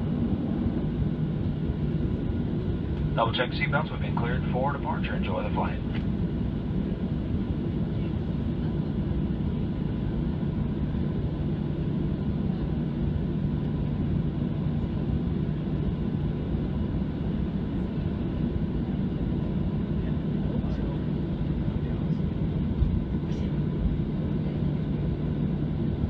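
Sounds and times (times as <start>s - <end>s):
jet engines droning in cabin: 0.0s - 26.0s.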